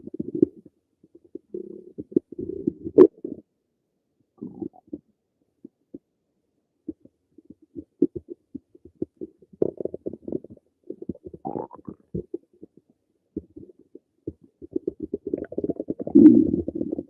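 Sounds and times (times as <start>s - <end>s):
stomach gurgling: 0.0s - 3.5s, 4.4s - 6.0s, 6.8s - 17.0s.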